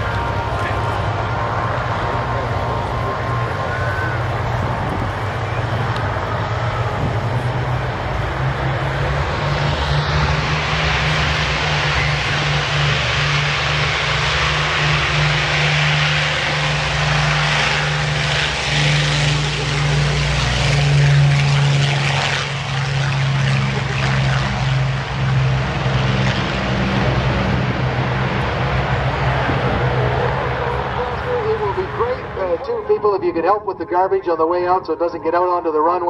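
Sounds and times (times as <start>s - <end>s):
propeller aircraft engines running: 0.0s - 36.0s.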